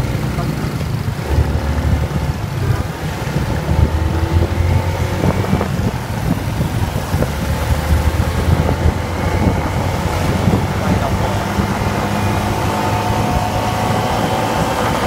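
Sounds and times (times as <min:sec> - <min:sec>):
motorbike engine and road noise: 0:00.0 - 0:15.0
wind buffeting microphone: 0:00.0 - 0:15.0.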